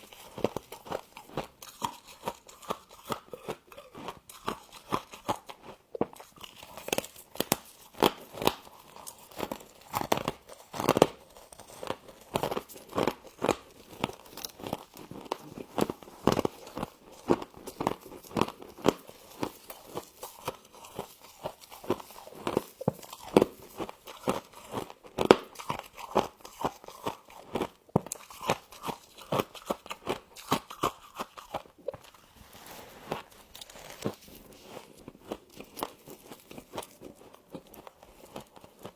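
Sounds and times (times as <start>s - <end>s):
ice crunching between teeth: 0.0s - 38.9s.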